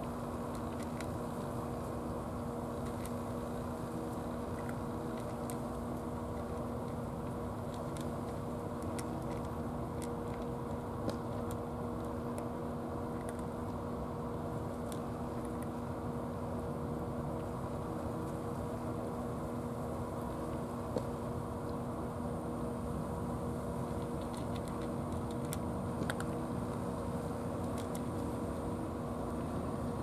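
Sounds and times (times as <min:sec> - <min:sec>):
cat chewing food: 0:00.0 - 0:30.0.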